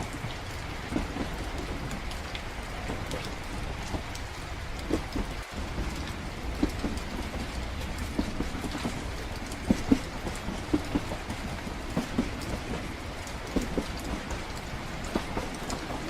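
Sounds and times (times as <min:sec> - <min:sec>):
rain pattering: 0:00.0 - 0:16.0
train carriage rumble: 0:00.0 - 0:16.0.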